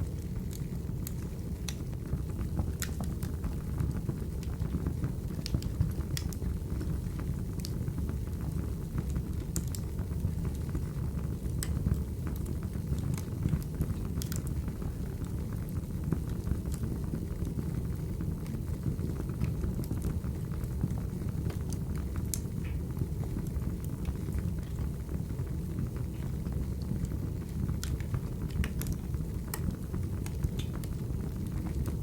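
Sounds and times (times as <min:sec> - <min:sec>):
logs crackling and popping: 0:00.0 - 0:17.6, 0:18.4 - 0:32.0
rumble of fire flames: 0:00.0 - 0:32.0.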